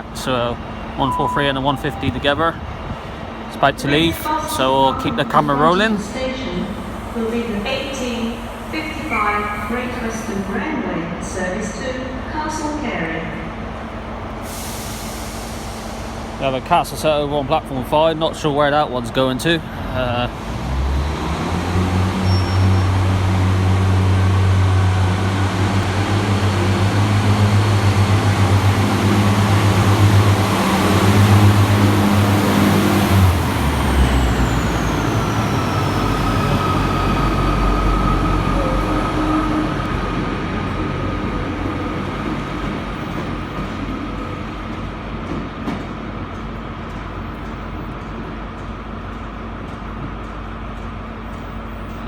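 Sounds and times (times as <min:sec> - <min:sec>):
train diesel engines running: 0:00.0 - 0:52.0.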